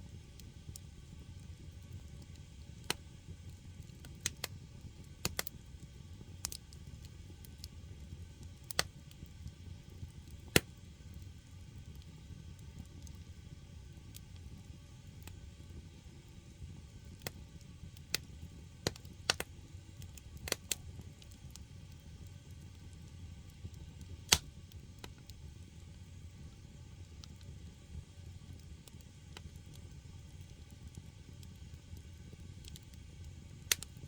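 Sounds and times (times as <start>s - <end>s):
fire pops and crackles: 0.0s - 34.0s
firewood fire rumbling: 0.0s - 34.0s.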